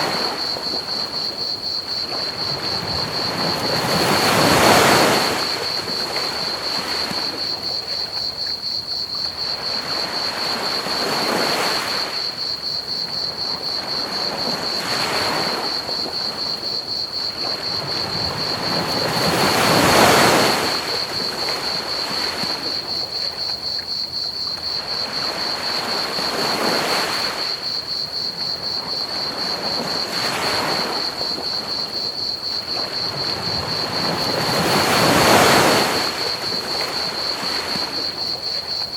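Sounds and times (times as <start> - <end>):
crickets chirping: 0.0 - 38.9
ocean waves washing onto beach: 0.0 - 38.9.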